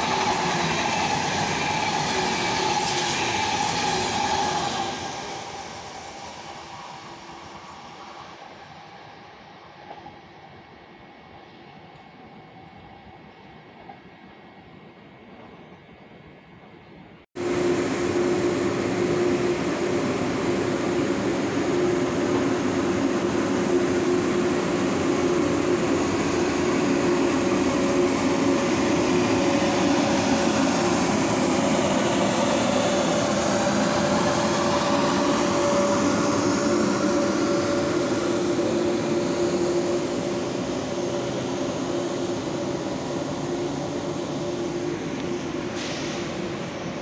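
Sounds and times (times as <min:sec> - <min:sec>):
electrical hum of train: 0:00.0 - 0:47.0
rumble of train cars: 0:00.0 - 0:47.0.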